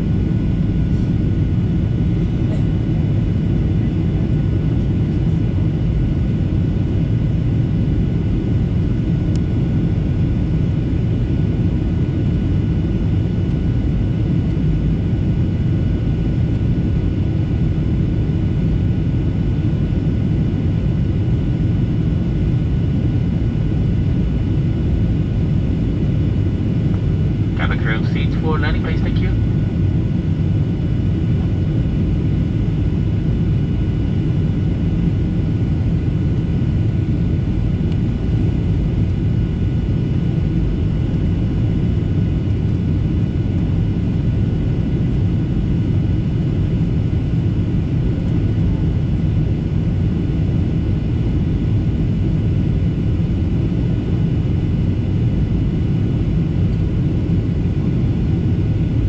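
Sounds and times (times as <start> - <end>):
airplane cabin rumble: 0.0 - 59.0.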